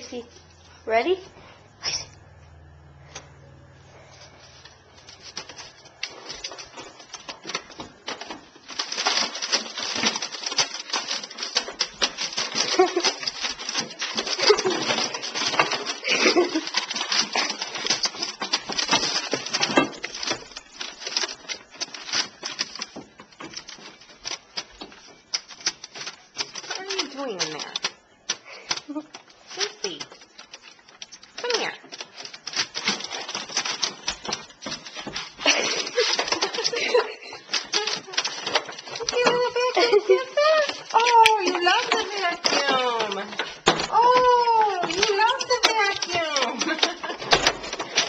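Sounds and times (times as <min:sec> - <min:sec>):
puppy claws scratching and clattering: 0:04.0 - 0:48.0.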